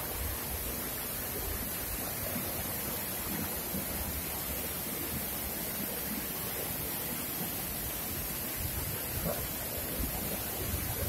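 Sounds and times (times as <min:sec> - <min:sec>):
river tumbling over boulders: 0:00.0 - 0:11.0
waterfall rushing: 0:00.0 - 0:11.0.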